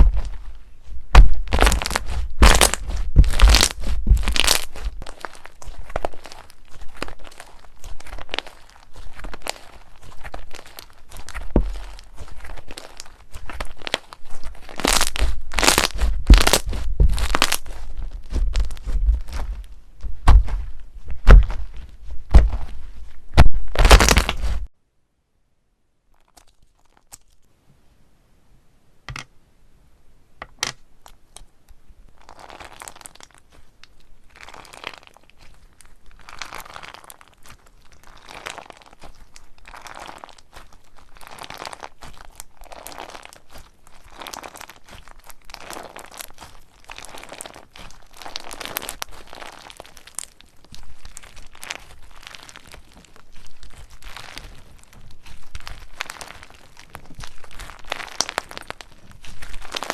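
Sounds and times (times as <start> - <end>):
slime squeezed by hand crackling: 0.0 - 24.7, 32.2 - 59.9.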